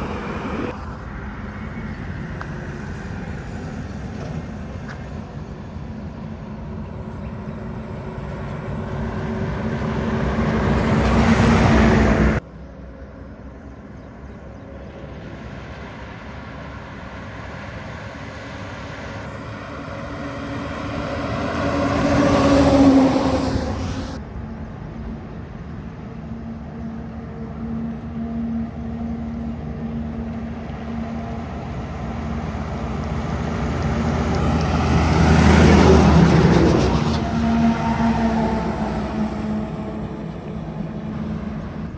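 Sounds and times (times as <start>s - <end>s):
diesel trucks passing: 0.0s - 12.4s, 16.6s - 41.9s.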